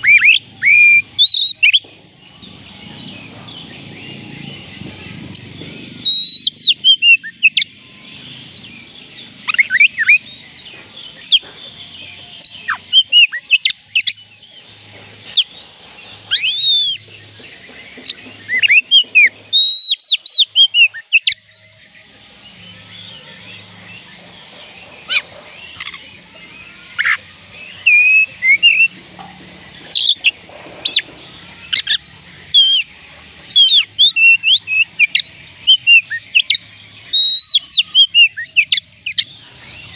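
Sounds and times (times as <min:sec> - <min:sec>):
bird singing whistled notes: 0:00.0 - 0:01.8, 0:02.4 - 0:39.9.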